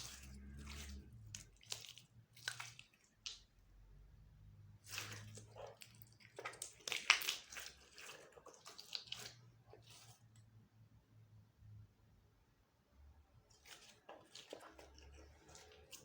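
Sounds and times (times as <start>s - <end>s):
slime squishing by hand: 0.0s - 10.6s, 13.4s - 16.0s.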